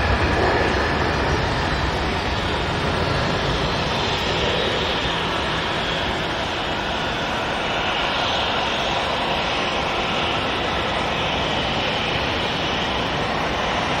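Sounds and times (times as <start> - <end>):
jet engines at takeoff power: 0.0 - 14.0.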